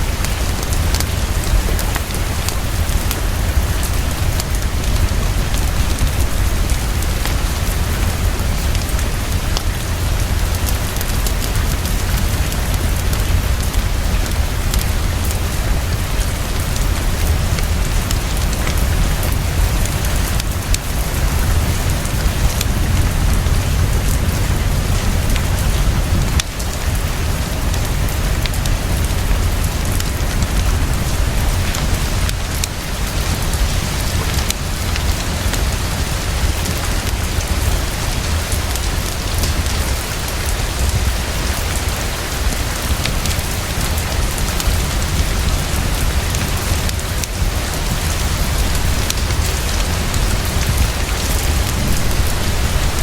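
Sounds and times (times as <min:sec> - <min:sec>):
heavy rainfall: 0:00.0 - 0:53.0
low rumble: 0:00.0 - 0:53.0.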